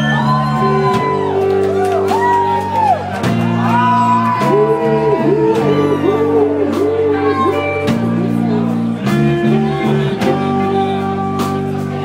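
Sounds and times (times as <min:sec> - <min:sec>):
bass guitar: 0:00.0 - 0:12.0
drums: 0:00.0 - 0:12.0
electric guitar: 0:00.0 - 0:12.0.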